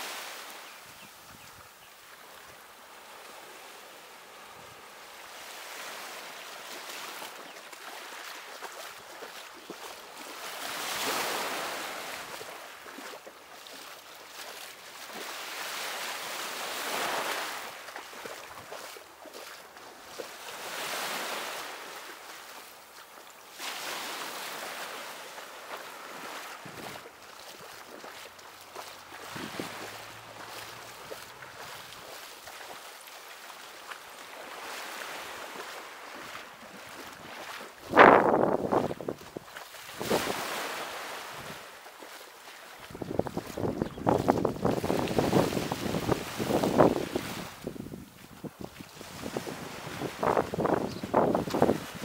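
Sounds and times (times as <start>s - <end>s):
small waves washing onto shore: 0.0s - 52.0s.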